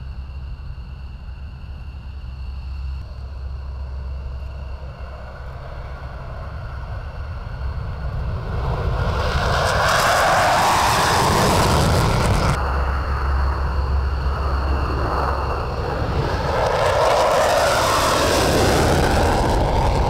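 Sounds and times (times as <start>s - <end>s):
military aircraft engines: 0.0s - 20.0s.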